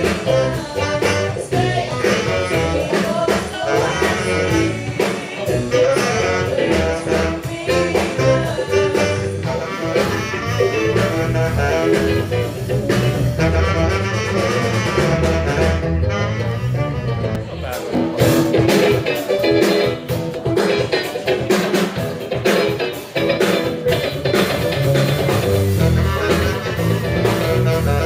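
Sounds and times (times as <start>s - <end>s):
tenor saxophone: 0.0s - 20.6s, 23.9s - 28.0s
bass guitar: 0.0s - 28.0s
drums: 0.0s - 28.0s
electric guitar: 0.0s - 28.0s.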